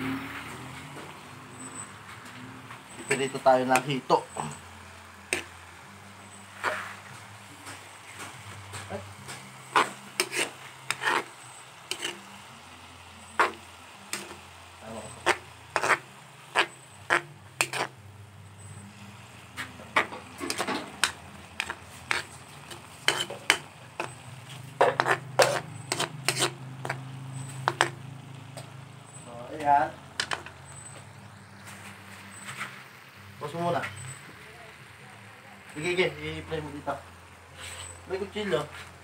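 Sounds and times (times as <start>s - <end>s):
metal spatula scraping wok: 0.1s - 35.0s, 35.6s - 39.0s.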